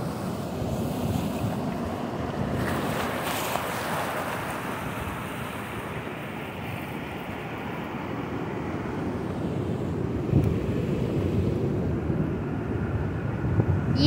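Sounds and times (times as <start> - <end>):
surf washing over rocks: 0.0 - 12.3
wind buffeting microphone: 0.0 - 14.0.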